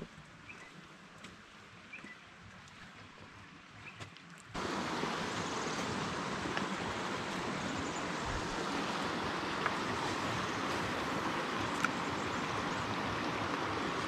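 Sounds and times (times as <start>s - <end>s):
creek water rushing over rocks: 0.0s - 14.0s.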